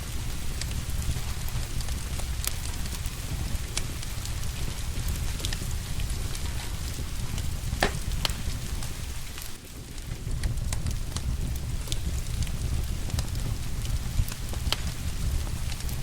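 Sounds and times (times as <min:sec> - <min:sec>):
rain hiss: 0:00.0 - 0:16.0
wood fire crackling: 0:00.0 - 0:16.0
fire pops: 0:00.2 - 0:16.0.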